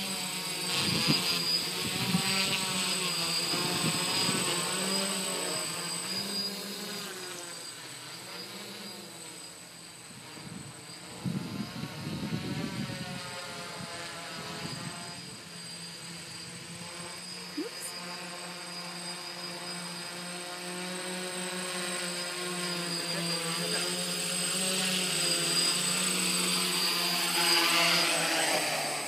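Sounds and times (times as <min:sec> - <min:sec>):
quadcopter propellers buzzing: 0:00.0 - 0:29.0.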